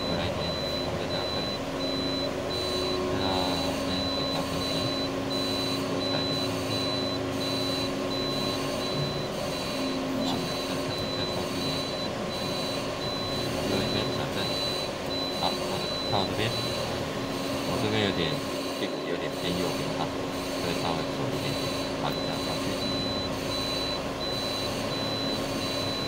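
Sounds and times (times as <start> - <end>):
high-pitched beep: 0.0 - 18.4, 20.6 - 26.0.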